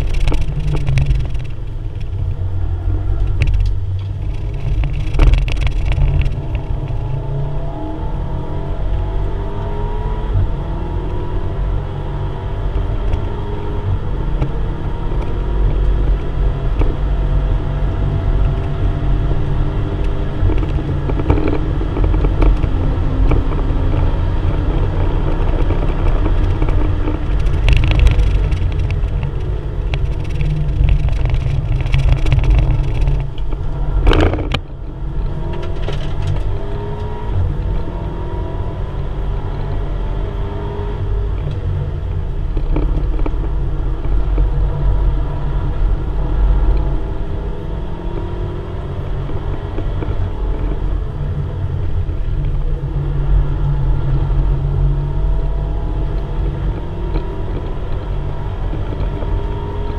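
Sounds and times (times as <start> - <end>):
car engine accelerating: 0.0 - 59.9
road and wind noise: 0.0 - 59.9.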